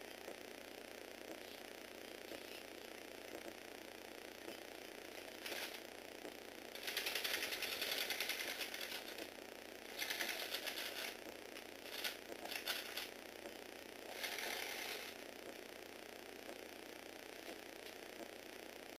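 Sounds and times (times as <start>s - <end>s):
small electric motors buzzing: 0.2s - 18.9s.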